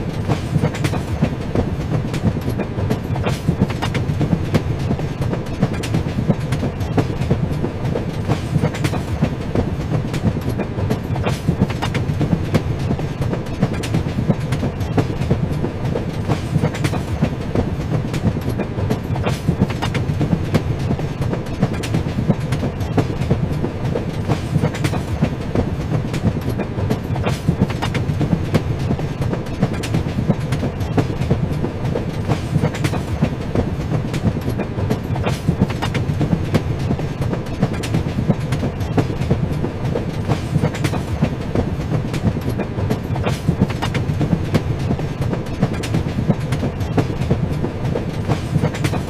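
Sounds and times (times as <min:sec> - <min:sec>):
clicks and clacks of train: 0:00.0 - 0:49.0
train wheels rumbling on track: 0:00.0 - 0:49.0.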